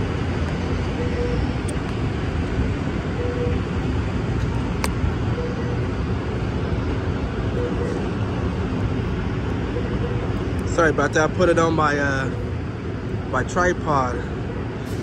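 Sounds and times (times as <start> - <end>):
train engine rumble: 0.0 - 15.0.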